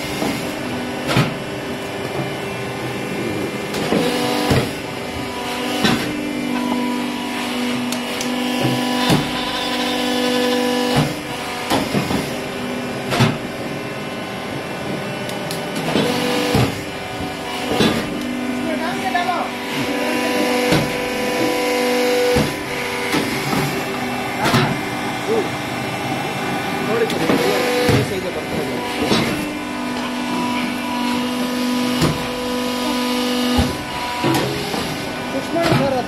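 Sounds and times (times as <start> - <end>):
motor and pump hum: 0.0 - 36.0.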